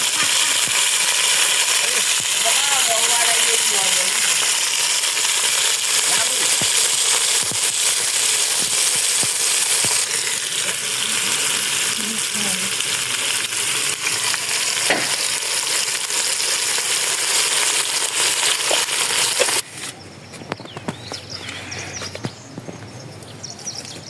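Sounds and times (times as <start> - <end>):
food sizzling in a pot: 0.0 - 19.6.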